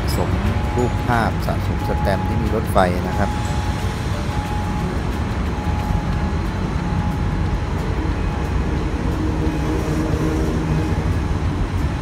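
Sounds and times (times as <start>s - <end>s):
diesel locomotive engine rumble: 0.0s - 12.0s
droning engine note: 0.0s - 12.0s.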